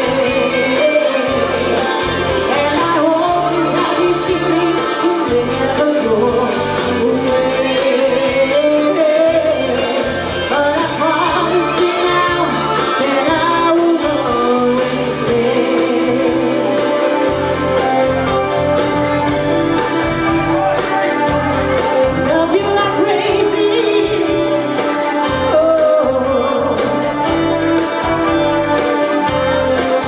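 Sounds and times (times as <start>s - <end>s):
woman singing into microphone: 0.0s - 18.4s, 19.9s - 30.0s
music with steady bass line: 0.0s - 30.0s.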